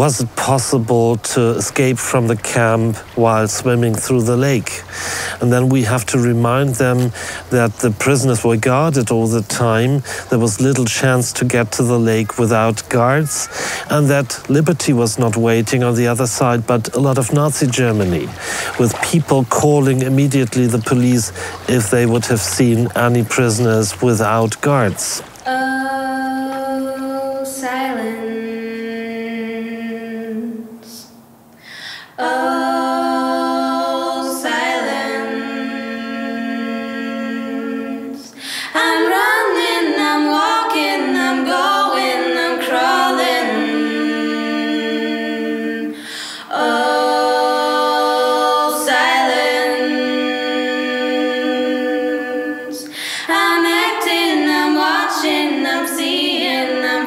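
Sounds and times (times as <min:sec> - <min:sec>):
person singing unaccompanied: 0:00.0 - 0:31.2, 0:32.1 - 0:57.0.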